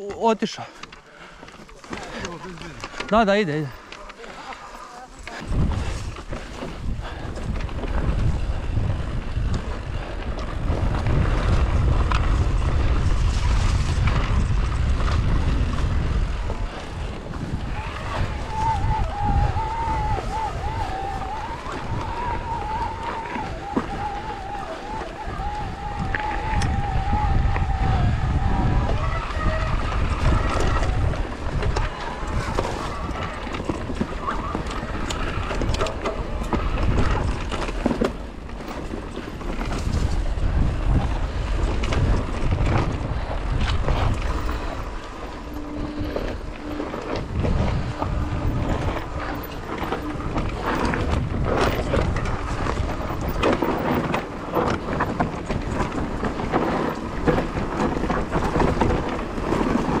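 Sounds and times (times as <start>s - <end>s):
mountain bike rattling on rough trail: 0.0s - 60.0s
wind buffeting microphone: 1.2s - 60.0s.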